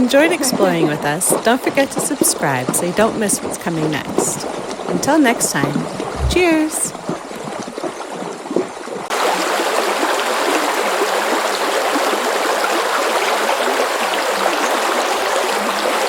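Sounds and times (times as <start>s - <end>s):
rushing flowing water: 0.0s - 16.0s.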